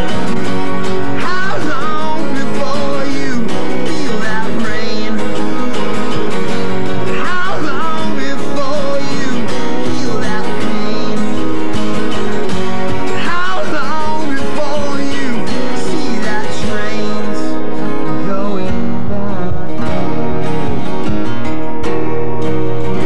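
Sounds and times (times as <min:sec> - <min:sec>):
person singing: 0:00.0 - 0:20.2
acoustic guitar strumming: 0:00.0 - 0:23.0.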